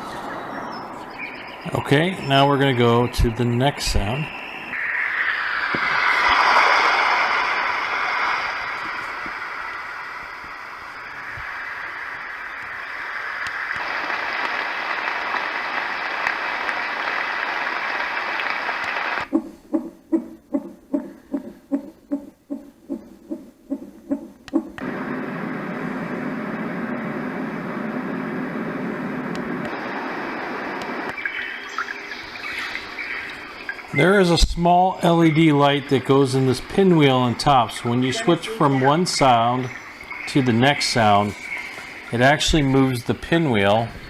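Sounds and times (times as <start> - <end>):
white noise machine hiss: 0.0 - 19.7, 22.4 - 44.0.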